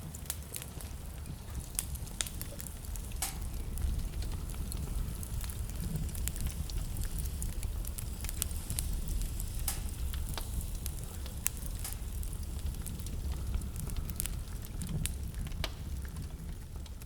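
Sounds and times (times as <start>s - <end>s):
wood fire crackling: 0.0s - 17.0s
low steady rumble: 0.7s - 17.0s.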